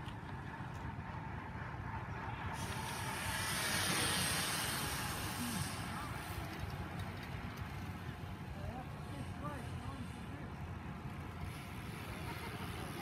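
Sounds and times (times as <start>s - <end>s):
bicycle tyres hissing on asphalt: 2.5s - 13.0s.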